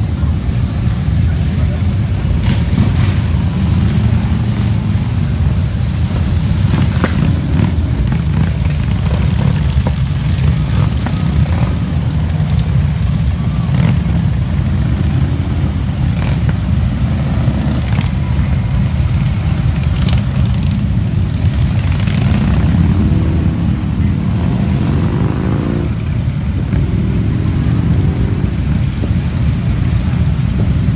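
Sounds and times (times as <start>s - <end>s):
motorcycle engines rumbling: 0.0s - 30.9s.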